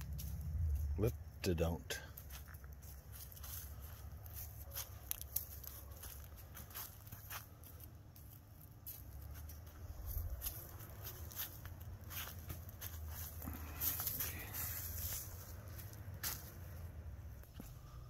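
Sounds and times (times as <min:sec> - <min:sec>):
footsteps on dry leaves: 0:02.1 - 0:18.0.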